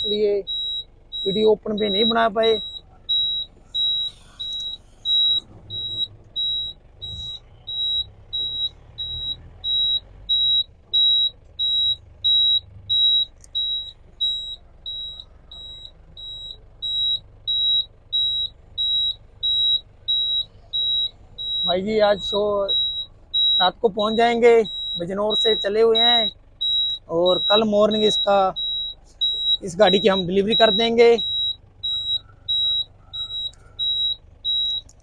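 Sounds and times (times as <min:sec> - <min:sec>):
high electronic beeps: 0:00.0 - 0:34.9
low engine rumble: 0:00.0 - 0:35.0.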